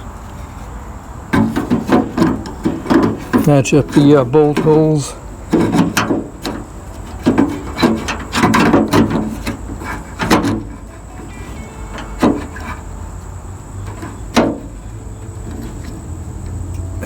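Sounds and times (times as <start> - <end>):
tailgate handle knocking and rattling: 1.3 - 12.9, 13.8 - 16.0.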